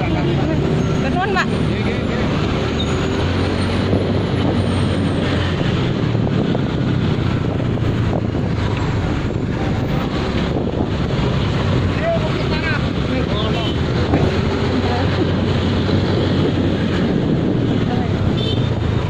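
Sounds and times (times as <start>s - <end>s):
truck engines droning: 0.0s - 19.0s
wind buffeting microphone: 0.0s - 19.0s.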